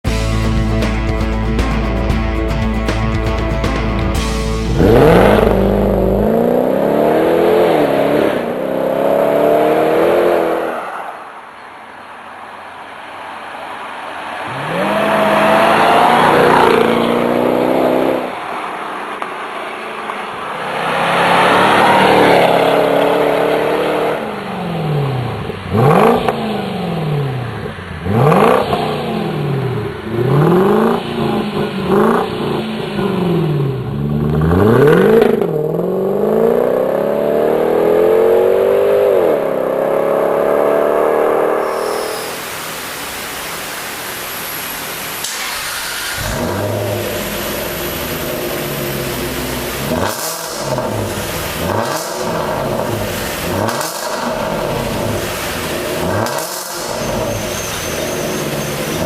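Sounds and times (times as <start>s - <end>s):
car engine revving: 3.4s - 11.0s, 14.2s - 59.0s.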